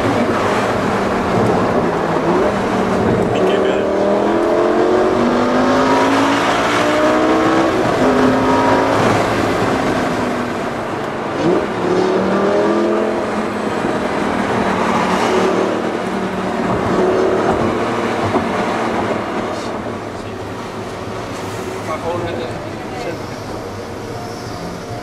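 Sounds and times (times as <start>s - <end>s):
car engine accelerating through gears: 0.0s - 21.5s.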